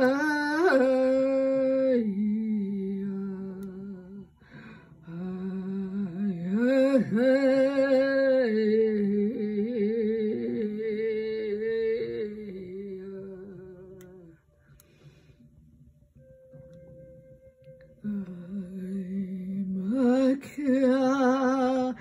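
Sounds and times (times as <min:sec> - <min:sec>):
woman humming a wordless chant: 0:00.0 - 0:04.4, 0:05.0 - 0:14.5, 0:18.0 - 0:22.0.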